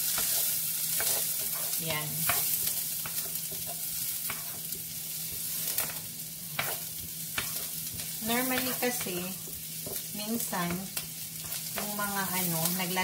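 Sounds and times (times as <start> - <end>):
wooden spoon scraping a pan: 0.0 - 12.4
onion sizzling in a frying pan: 0.0 - 13.0.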